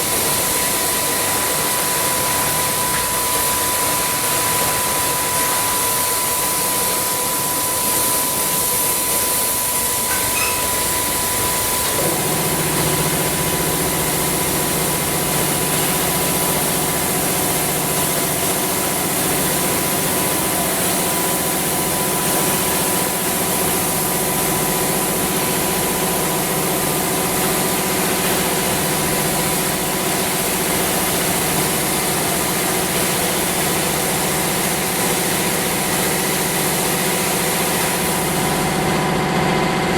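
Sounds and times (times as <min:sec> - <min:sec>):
car wash spraying hiss: 0:00.0 - 0:39.0.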